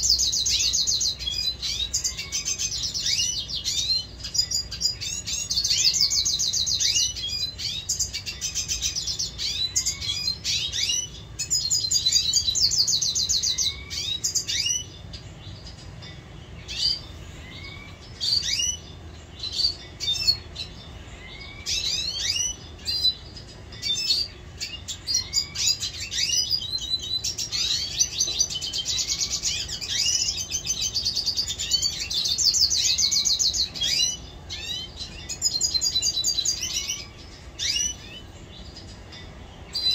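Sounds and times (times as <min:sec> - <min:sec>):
birds trilled song: 0:00.0 - 0:39.9.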